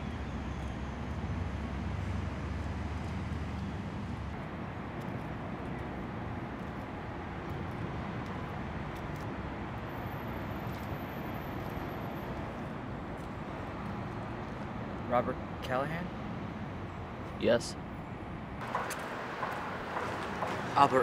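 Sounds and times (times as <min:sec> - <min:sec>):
distant traffic: 0:00.0 - 0:21.0.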